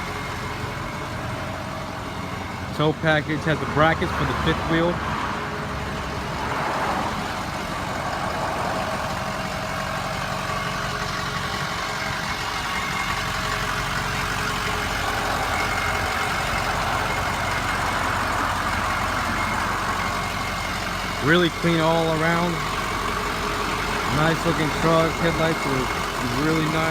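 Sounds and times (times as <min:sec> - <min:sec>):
diesel engine idling: 0:00.0 - 0:26.9.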